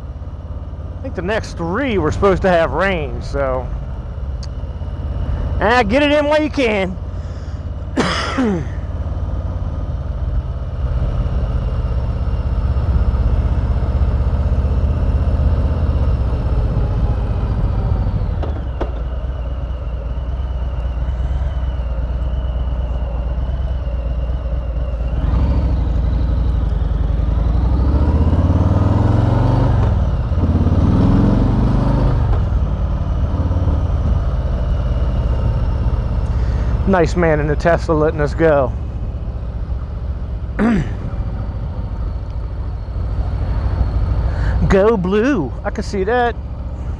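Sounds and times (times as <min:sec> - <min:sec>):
motorcycle engine revving: 0:00.6 - 0:46.9.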